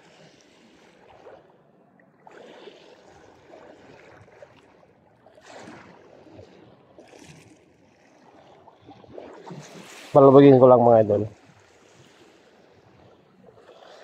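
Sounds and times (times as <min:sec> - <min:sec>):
sea water lapping: 0:00.0 - 0:14.0.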